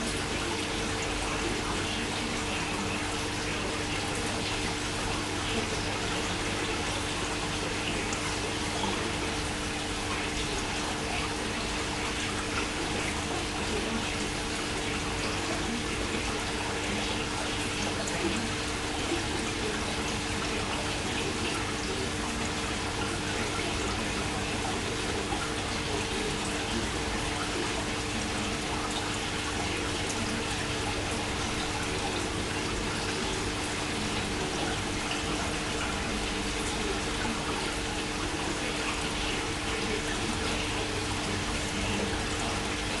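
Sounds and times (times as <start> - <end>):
pump humming: 0.0 - 43.0
water running: 0.0 - 43.0.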